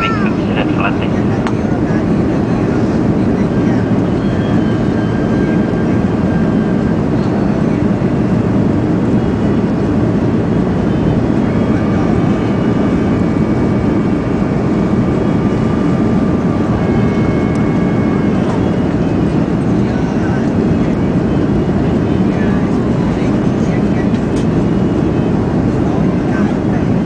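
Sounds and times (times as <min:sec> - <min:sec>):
jet engines and airflow in cabin: 0:00.0 - 0:27.0.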